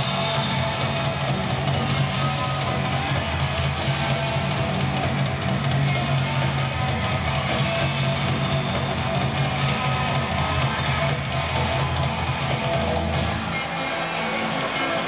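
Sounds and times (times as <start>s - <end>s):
rock music with guitar over pa: 0.0s - 15.0s.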